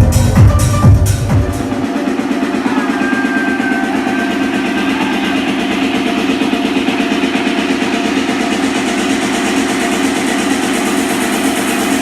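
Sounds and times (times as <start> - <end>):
noisy techno drone: 0.0 - 12.0.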